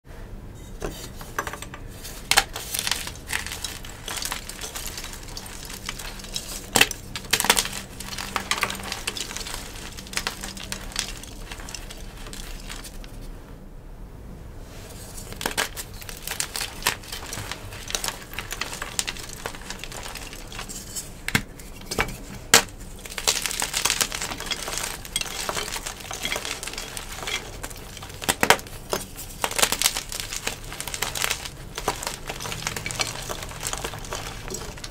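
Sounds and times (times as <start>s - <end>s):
chalk crumbling with crackles: 0.6s - 13.3s, 14.7s - 34.9s.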